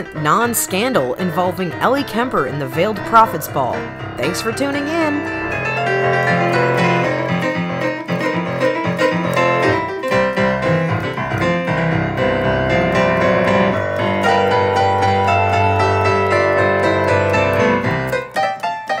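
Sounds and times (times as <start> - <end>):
keyboard instrumental music: 0.0 - 19.0.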